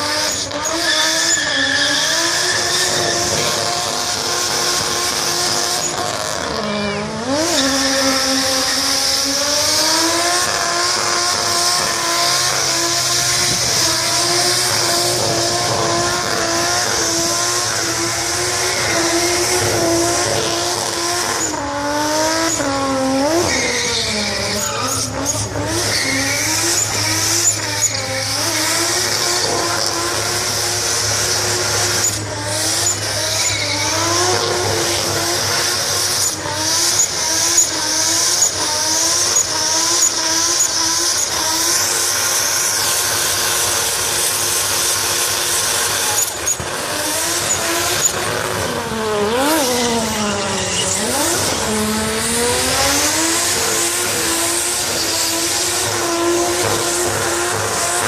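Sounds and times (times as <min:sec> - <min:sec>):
car engine revving: 0:00.0 - 0:58.0
tyres screeching: 0:00.0 - 0:58.0.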